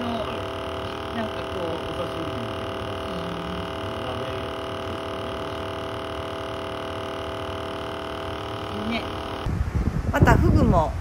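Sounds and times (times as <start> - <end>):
air pump buzzing hum: 0.0 - 10.7.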